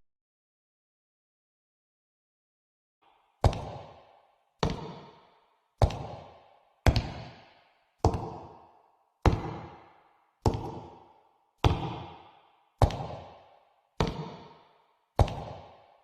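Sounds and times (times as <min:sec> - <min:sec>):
heavy echoing knocks: 0:03.1 - 0:16.0.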